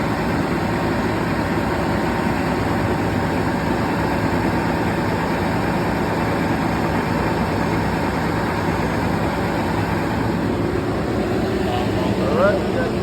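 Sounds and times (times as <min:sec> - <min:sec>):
heavy engine running: 0:00.0 - 0:13.0.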